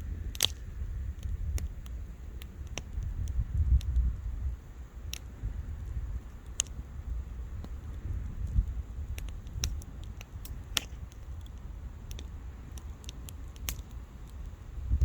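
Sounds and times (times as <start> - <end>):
bonfire crackling and popping: 0.0 - 15.0
steady low rumble: 0.0 - 15.0.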